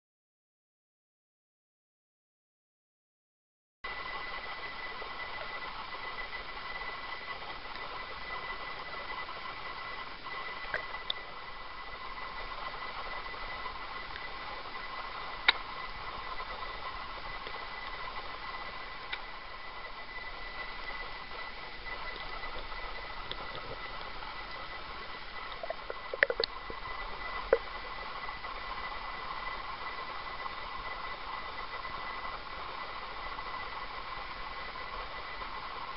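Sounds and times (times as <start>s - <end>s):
faint high whine: 3.8s - 35.9s.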